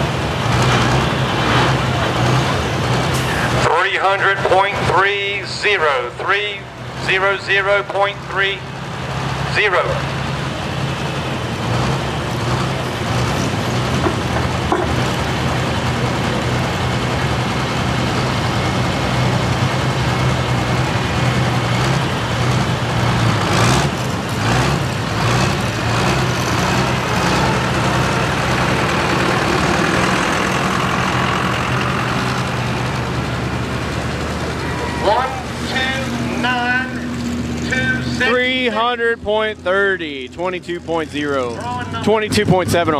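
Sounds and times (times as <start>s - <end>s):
diesel tractor engine idling: 0.0s - 42.9s.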